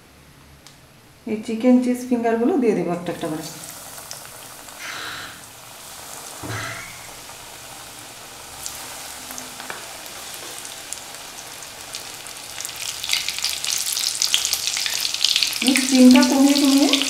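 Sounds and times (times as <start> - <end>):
food deep-frying in oil: 3.0 - 17.0.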